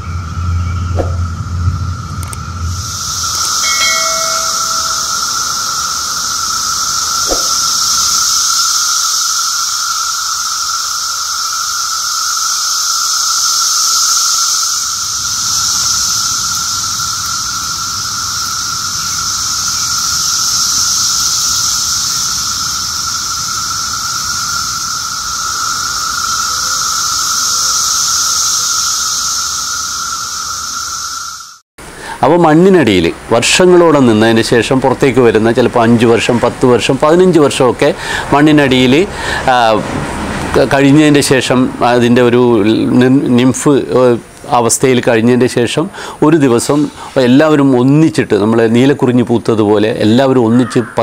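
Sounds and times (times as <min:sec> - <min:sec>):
cicadas chorus droning: 0:00.0 - 0:51.0.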